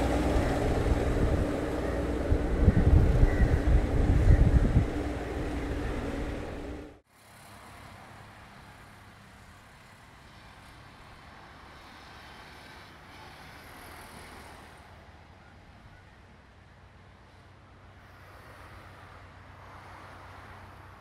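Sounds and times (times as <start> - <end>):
faint traffic hum: 0.0 - 21.0.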